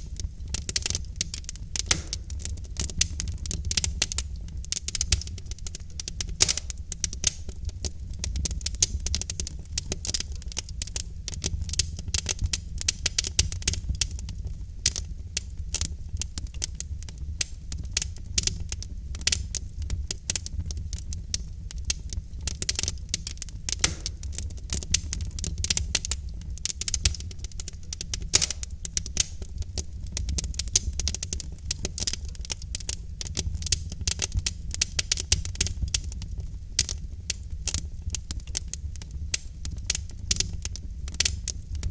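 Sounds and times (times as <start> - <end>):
low rumble of burning logs: 0.0 - 41.9
wood fire crackling and popping: 0.0 - 41.9.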